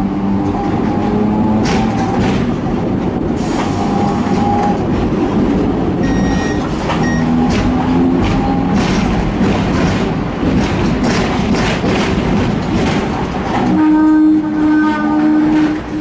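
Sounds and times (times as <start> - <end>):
steady tram hum: 0.0 - 16.0
tram rattling: 0.0 - 16.0
tram wheels rumbling on rails: 0.0 - 16.0.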